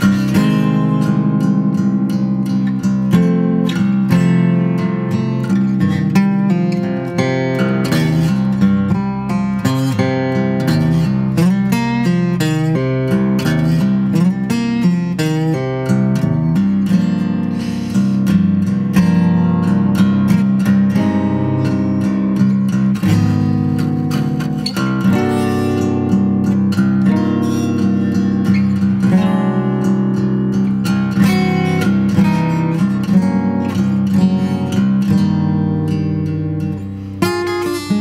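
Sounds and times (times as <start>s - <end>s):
acoustic guitar playing: 0.0s - 38.0s.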